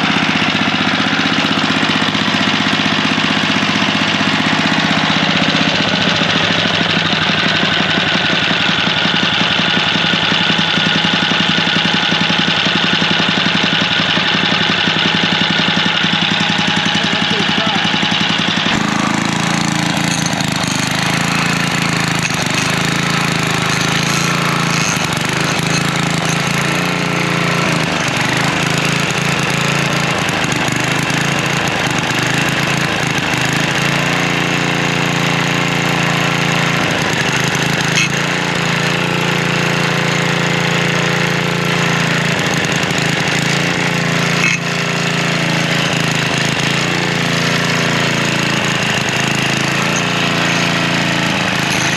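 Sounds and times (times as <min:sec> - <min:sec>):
edger engine running: 0:00.0 - 0:51.9.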